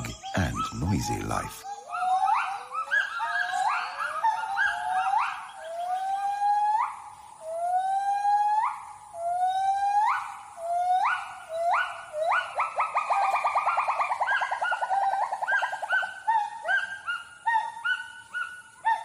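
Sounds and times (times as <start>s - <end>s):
gibbon whooping calls: 0.0s - 19.0s.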